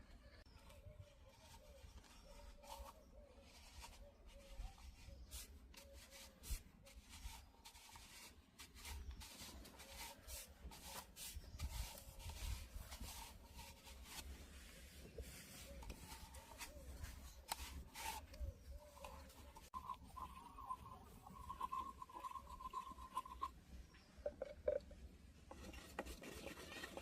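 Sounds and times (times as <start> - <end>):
hands rubbing and scraping pipe: 0.3 - 24.9, 25.5 - 27.0.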